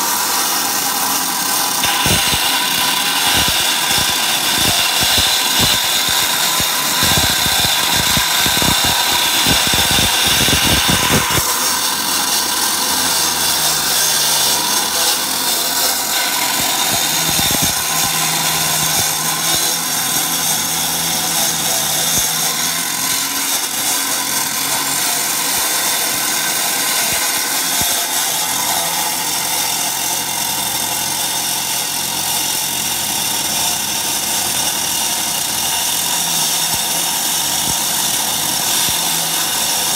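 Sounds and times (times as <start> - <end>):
angle grinder cutting concrete: 0.0 - 39.9.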